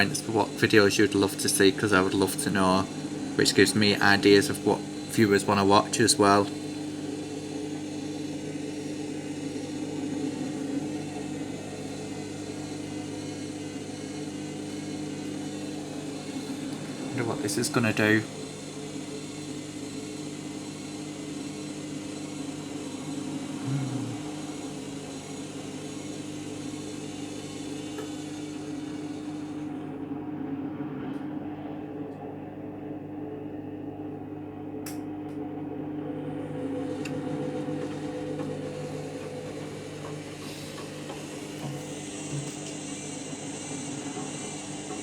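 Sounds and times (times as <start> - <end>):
washing machine spinning: 0.0 - 45.0.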